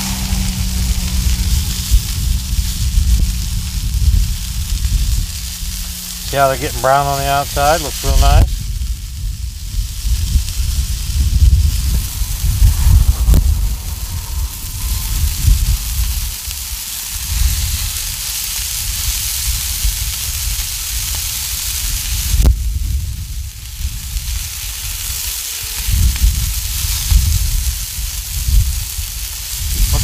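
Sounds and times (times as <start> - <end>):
meat sizzling on a griddle: 0.0 - 30.0
wind buffeting microphone: 0.0 - 30.0.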